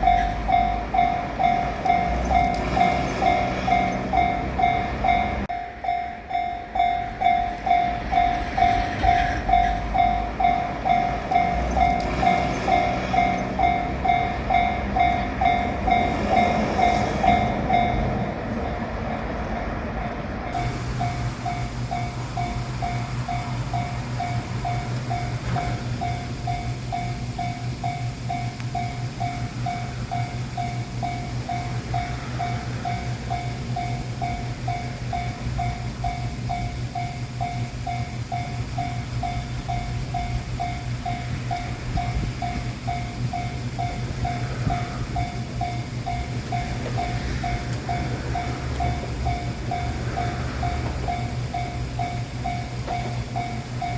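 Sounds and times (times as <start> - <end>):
diesel railcar drone: 0.0 - 53.9
level-crossing warning bell: 0.0 - 53.9.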